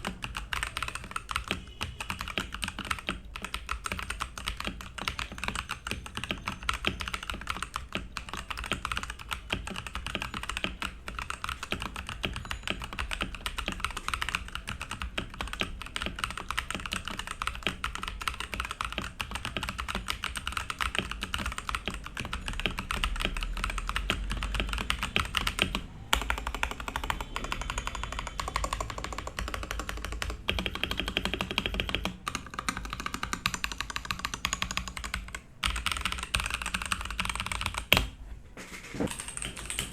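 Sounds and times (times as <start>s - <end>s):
fast mechanical keyboard typing: 0.0s - 38.2s, 38.8s - 39.9s.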